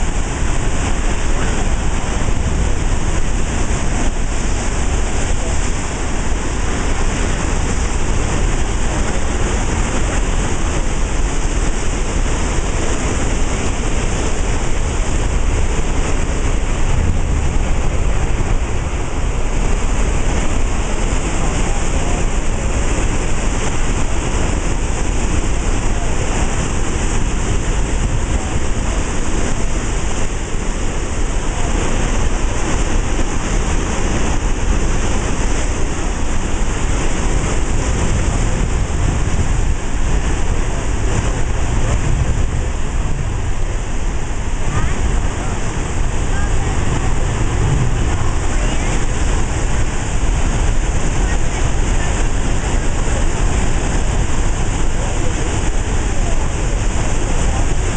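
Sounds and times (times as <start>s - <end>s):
roar of churning water: 0.0s - 57.9s.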